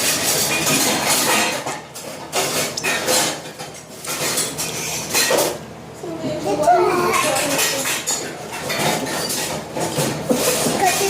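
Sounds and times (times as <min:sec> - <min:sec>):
dishes and cutlery clattering: 0:00.0 - 0:05.6, 0:06.2 - 0:11.0.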